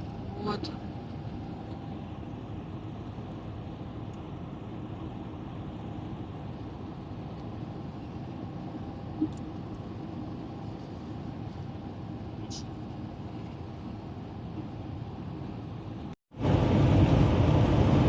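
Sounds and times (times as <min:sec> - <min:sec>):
van road and engine noise: 0:00.0 - 0:18.0.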